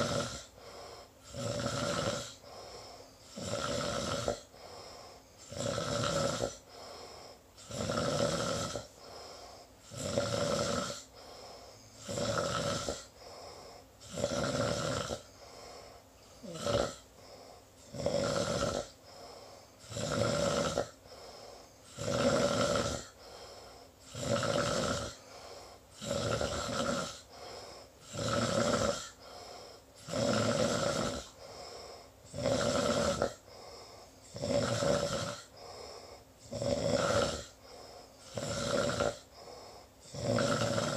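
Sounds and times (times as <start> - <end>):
person snoring: 0.0 - 40.9.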